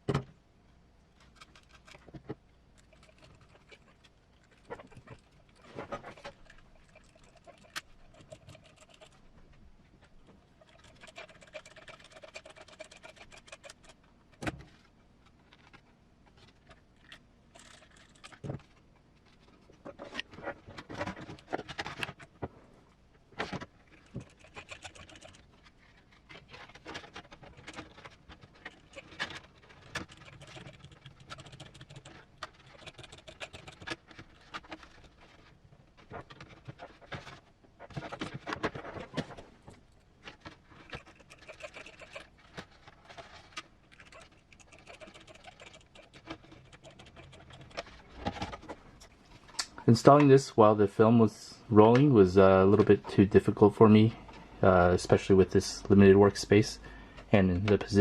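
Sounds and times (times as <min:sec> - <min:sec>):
plastic parts clicking and rattling: 0:01.2 - 0:22.5, 0:23.3 - 0:50.2.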